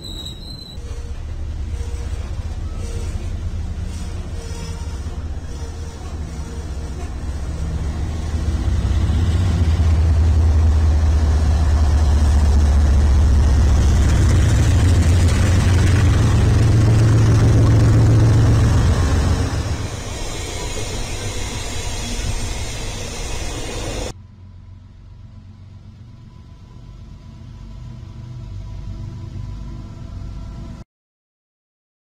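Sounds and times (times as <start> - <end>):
freight locomotive engine drone: 0.0 - 30.8.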